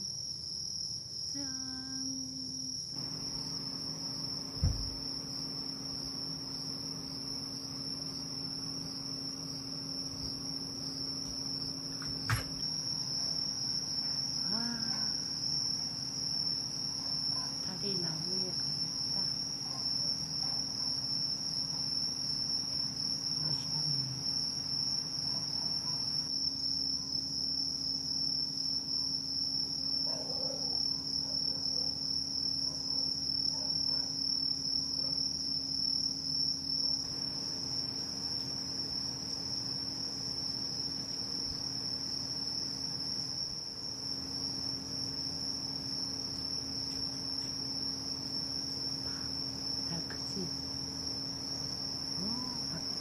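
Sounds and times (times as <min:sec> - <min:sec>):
crickets chirring: 0:00.0 - 0:53.0.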